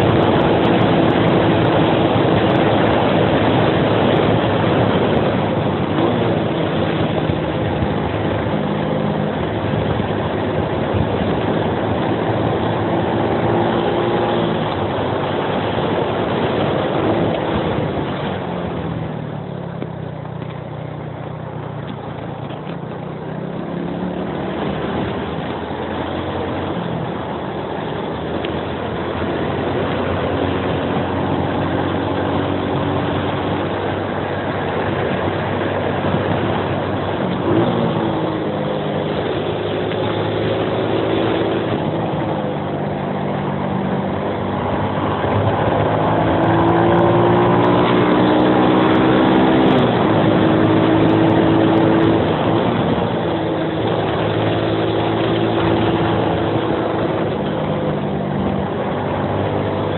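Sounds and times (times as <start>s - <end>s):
motorcycle engine under load: 0.0s - 59.9s
wind and road noise: 0.0s - 59.9s.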